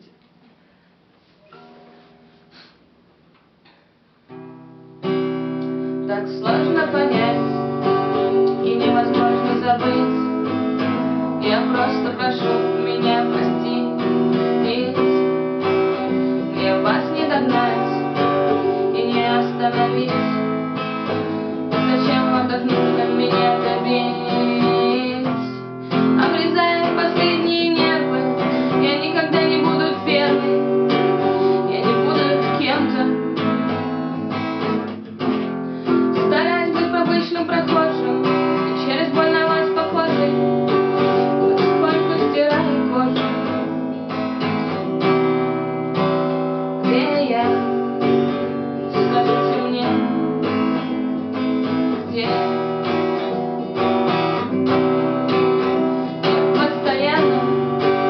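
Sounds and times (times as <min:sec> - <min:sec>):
strummed acoustic guitar music: 0:01.4 - 0:02.8, 0:04.3 - 0:58.0.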